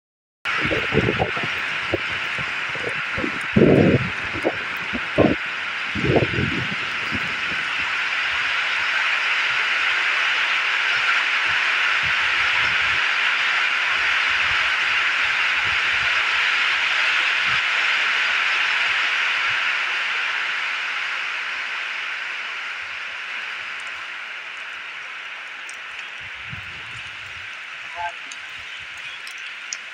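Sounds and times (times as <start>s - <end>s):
heavy rain on concrete and puddles: 0.5s - 29.9s.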